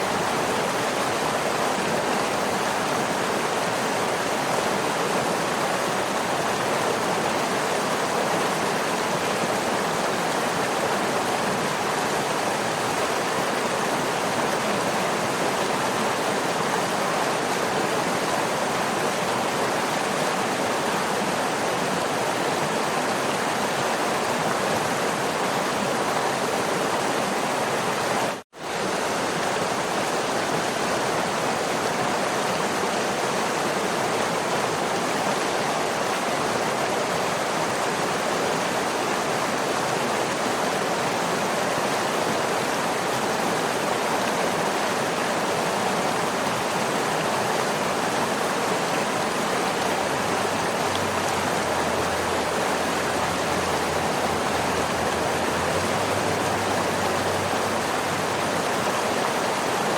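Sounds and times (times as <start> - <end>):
waterfall rushing water: 0.0 - 59.9.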